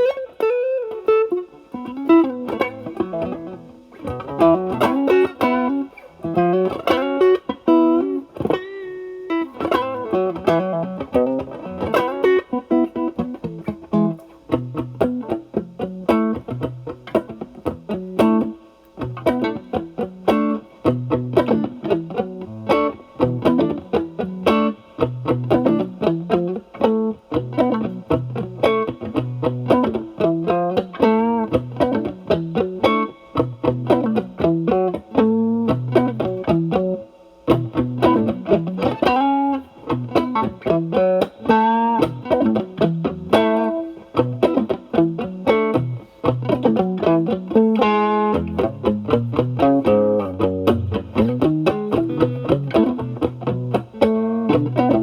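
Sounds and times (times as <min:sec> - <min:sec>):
overdriven electric guitar lead: 0:00.0 - 0:55.0.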